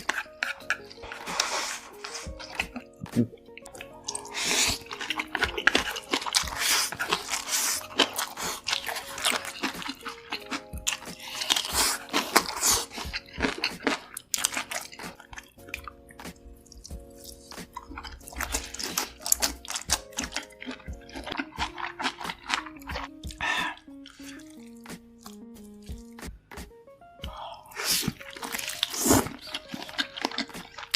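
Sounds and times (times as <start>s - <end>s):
wet biting and chewing: 0.0s - 26.4s, 27.2s - 30.9s
soft background music: 0.0s - 30.9s.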